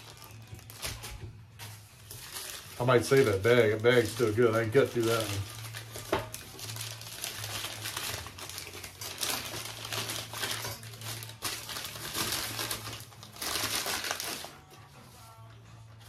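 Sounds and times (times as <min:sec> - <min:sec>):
packaging crinkling: 0:00.0 - 0:14.7.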